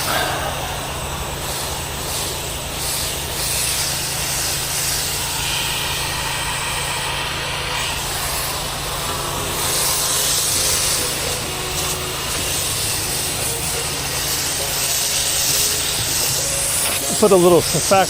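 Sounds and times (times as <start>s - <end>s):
pressure washer engine running: 0.0s - 18.0s
spray hissing against wall: 0.0s - 18.0s.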